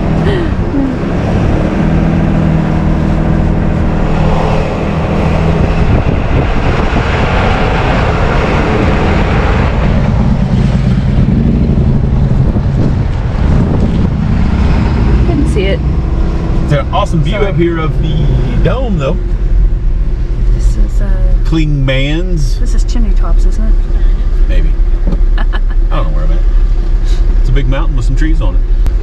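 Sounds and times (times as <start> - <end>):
road noise: 0.0 - 29.0
truck engine running: 0.0 - 29.0.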